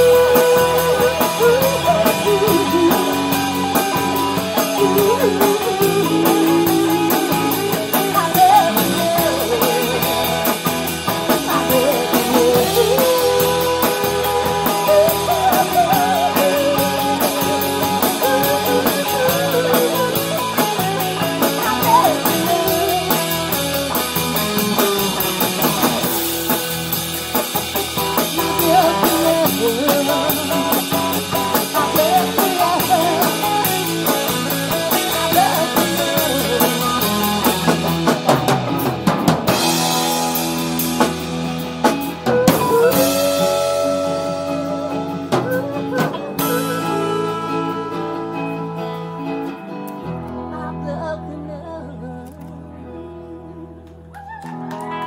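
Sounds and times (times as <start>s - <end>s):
drum kit beat: 0.0s - 49.6s
acoustic guitar: 0.0s - 55.0s
electric guitar: 0.0s - 55.0s.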